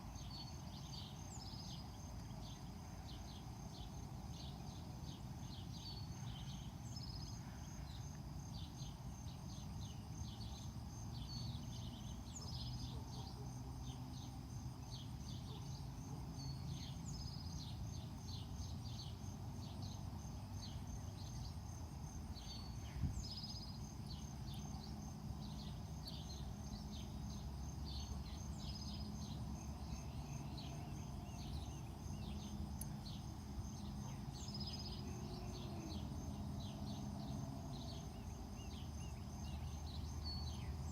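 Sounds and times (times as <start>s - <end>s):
high insect trill: 0.0s - 40.9s
songbird chirping: 0.0s - 40.9s.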